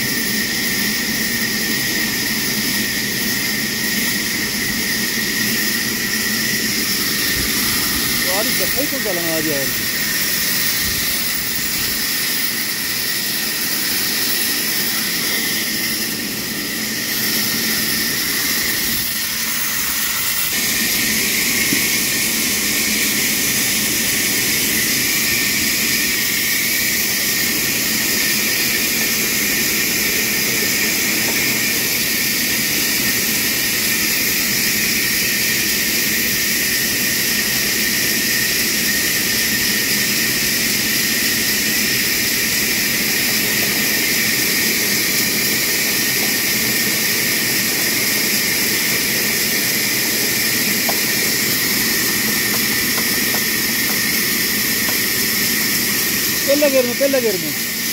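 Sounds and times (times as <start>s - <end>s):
band saw cutting log: 0.0s - 57.9s.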